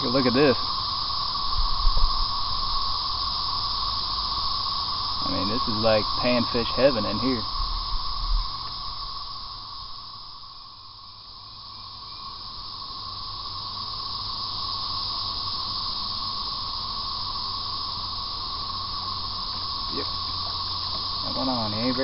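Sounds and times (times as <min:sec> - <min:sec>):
insect chorus hissing drone: 0:00.0 - 0:22.0.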